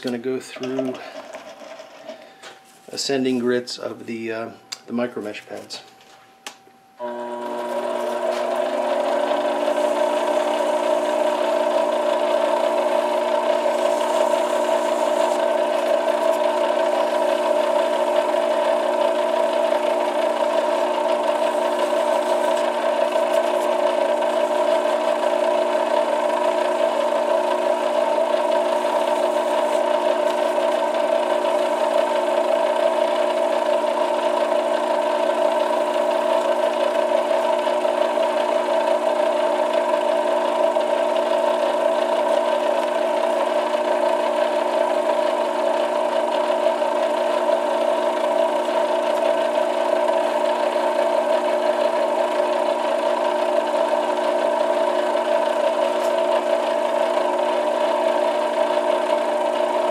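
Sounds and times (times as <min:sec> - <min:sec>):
metal lathe motor whine and rattle: 0:00.6 - 0:02.2, 0:07.0 - 0:59.9.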